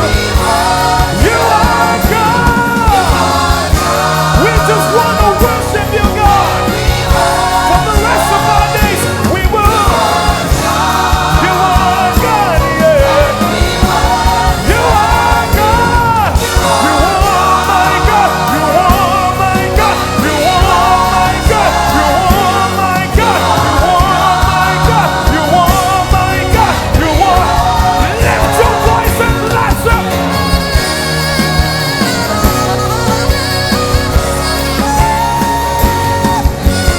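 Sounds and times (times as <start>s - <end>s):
band with bass and drums: 0.0s - 36.9s
voices singing: 0.0s - 36.9s.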